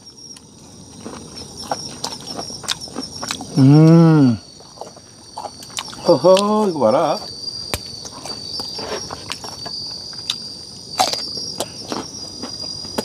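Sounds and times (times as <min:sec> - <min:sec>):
crunchy chewing: 0:00.0 - 0:13.0
night insects chirring: 0:00.0 - 0:13.0.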